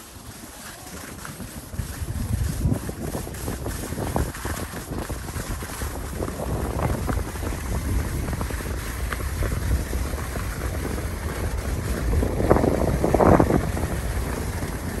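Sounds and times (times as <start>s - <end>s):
skis scraping: 0.0s - 15.0s
skis sliding on snow: 0.0s - 15.0s
wind buffeting microphone: 0.2s - 15.0s.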